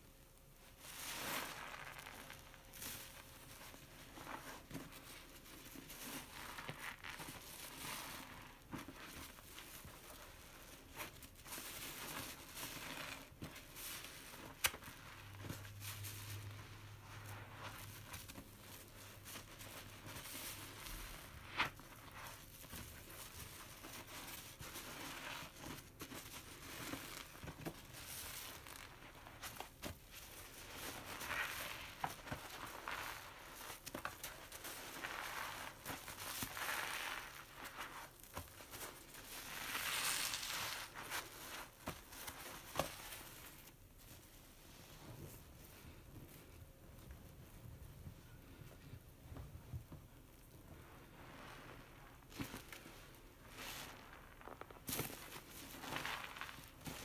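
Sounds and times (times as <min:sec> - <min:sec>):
foamy sponge squeezing: 0:00.6 - 0:46.0, 0:50.7 - 0:57.0.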